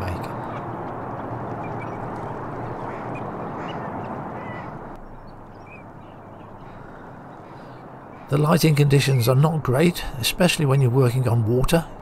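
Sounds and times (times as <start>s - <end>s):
ducks calling: 0.0s - 12.0s.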